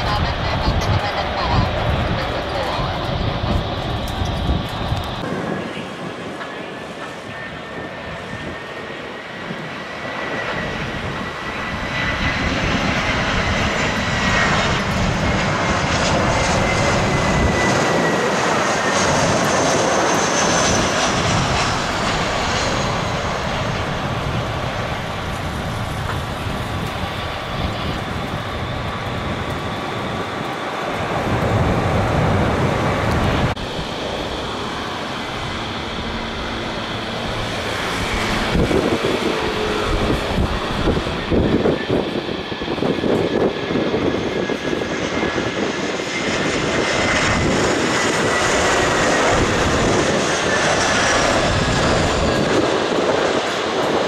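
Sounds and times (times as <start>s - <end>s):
jet engines whining on approach: 0.0s - 54.0s.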